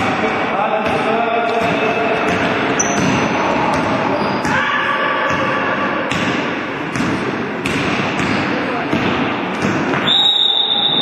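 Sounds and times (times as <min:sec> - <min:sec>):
basketball bouncing on gym floor: 0:00.8 - 0:10.1.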